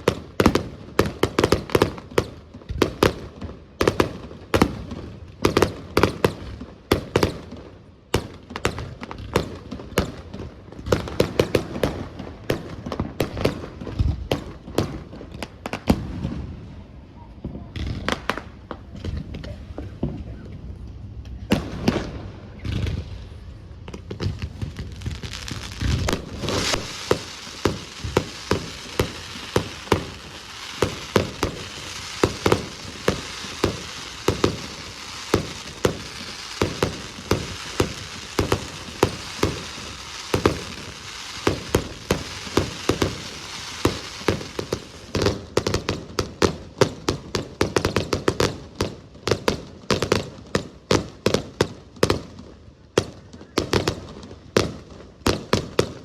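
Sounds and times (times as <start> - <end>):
deep fireworks booms: 0.0 - 52.3
fireworks bursting: 0.0 - 56.0
fireworks crackle: 0.0 - 56.0.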